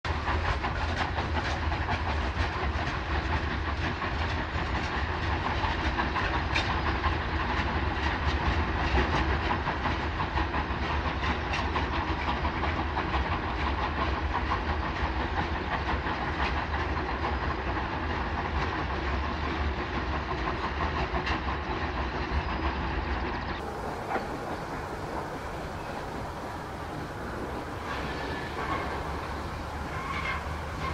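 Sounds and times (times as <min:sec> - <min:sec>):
wheels clattering on rail joints: 0:00.1 - 0:22.6, 0:23.6 - 0:30.9
steam locomotive chuffing: 0:00.1 - 0:30.9
train rumble: 0:00.1 - 0:30.9.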